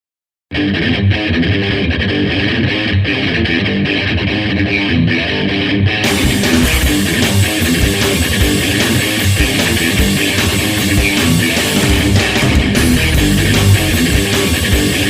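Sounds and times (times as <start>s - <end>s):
guitar-led music with steady beat: 0.5s - 15.0s.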